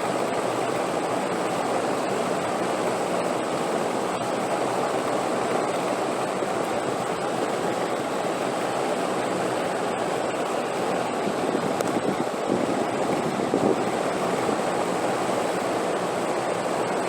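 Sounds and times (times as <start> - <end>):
steady rushing wind: 0.0 - 17.0.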